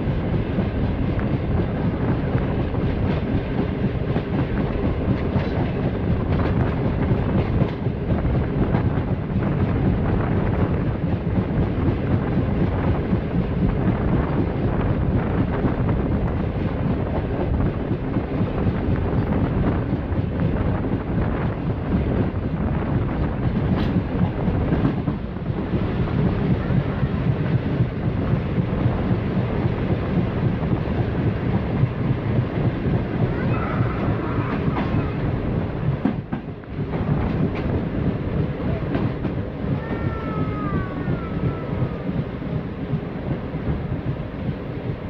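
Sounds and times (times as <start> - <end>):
rushing wind: 0.0 - 45.0
train wheels rumbling on rail: 0.0 - 45.0.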